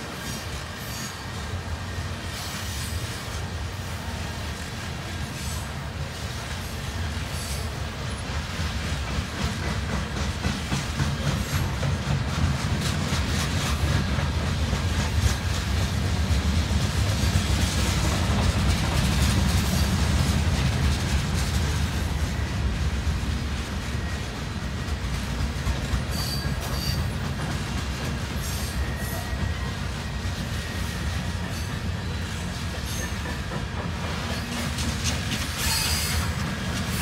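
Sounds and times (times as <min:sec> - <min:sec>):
freight train rolling past: 0:00.0 - 0:37.0
steel wheels clattering on rails: 0:00.0 - 0:37.0.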